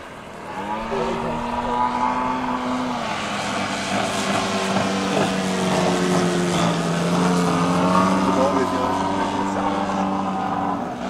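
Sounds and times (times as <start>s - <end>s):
model airplane engine and propeller: 0.0s - 11.0s.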